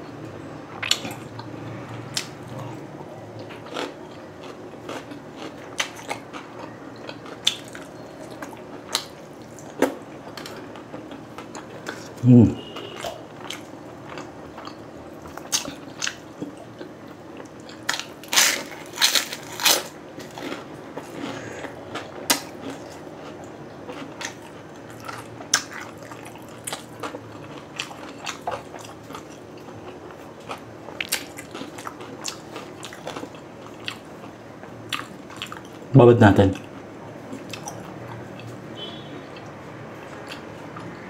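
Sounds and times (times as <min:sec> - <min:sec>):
person chewing crunchy food: 0:00.8 - 0:35.9, 0:36.6 - 0:41.0.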